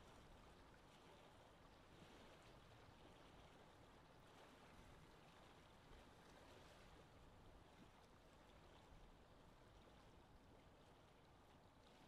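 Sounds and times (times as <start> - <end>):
faint water sounds: 0.0 - 12.0.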